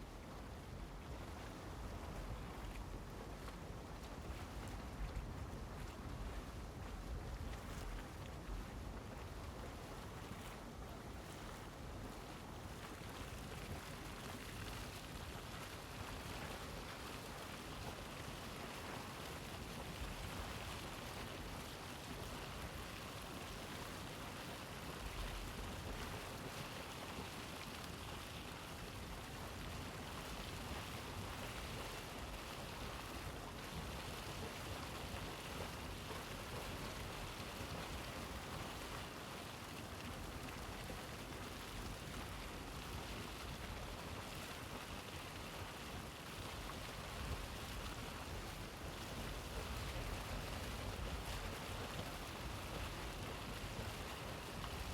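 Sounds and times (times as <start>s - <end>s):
hot spring water boiling: 0.0s - 54.9s.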